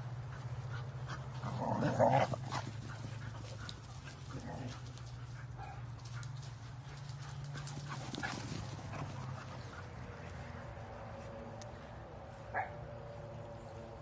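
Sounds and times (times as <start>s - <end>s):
dog paws running on grass: 0.2s - 14.0s.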